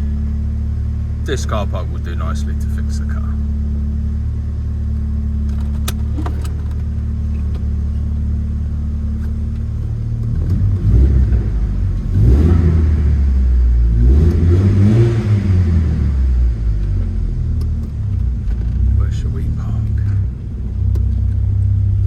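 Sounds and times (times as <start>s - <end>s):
car engine driving: 0.0s - 22.0s.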